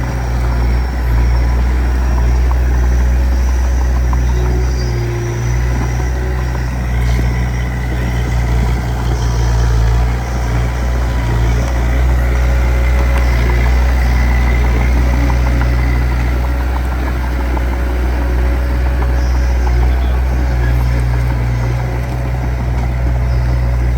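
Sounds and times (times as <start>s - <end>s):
diesel engine rumbling: 0.0s - 23.9s.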